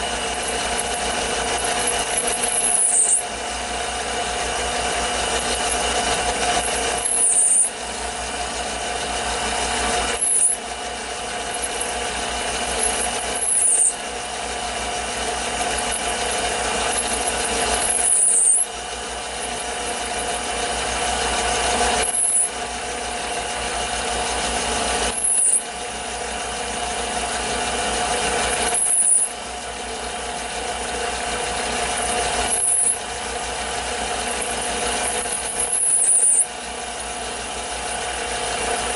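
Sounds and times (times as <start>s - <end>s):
cutter boring with high squeal: 0.0s - 38.9s
mini lathe running: 0.0s - 38.9s.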